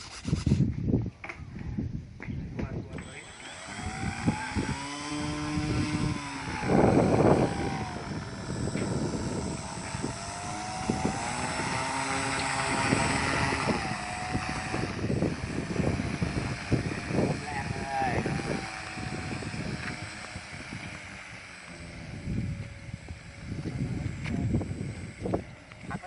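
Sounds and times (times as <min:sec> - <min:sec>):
model aircraft propeller humming: 0:00.0 - 0:00.7, 0:02.7 - 0:26.0
wind rumble on microphone: 0:00.0 - 0:26.0.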